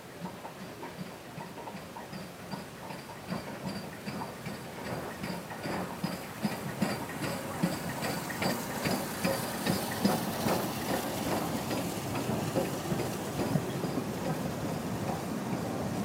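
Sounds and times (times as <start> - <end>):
steam hissing: 0.0 - 16.0
steam locomotive exhaust beats: 0.0 - 16.0.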